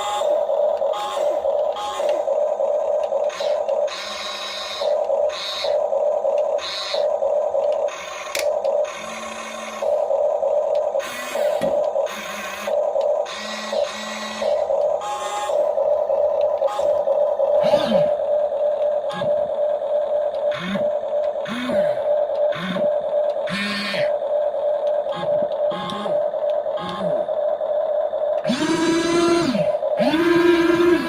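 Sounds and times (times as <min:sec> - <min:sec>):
electric gear motors whirring: 0:00.0 - 0:31.0
steady electronic hum: 0:00.0 - 0:31.0.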